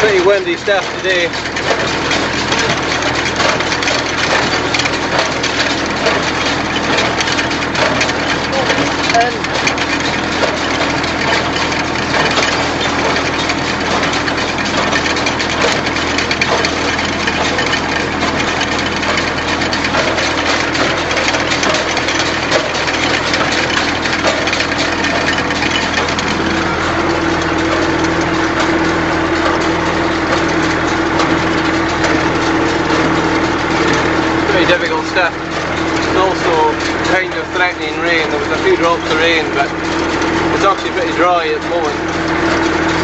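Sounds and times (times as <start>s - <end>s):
baler mechanism clattering: 0.0s - 43.0s
tractor engine running: 0.0s - 43.0s.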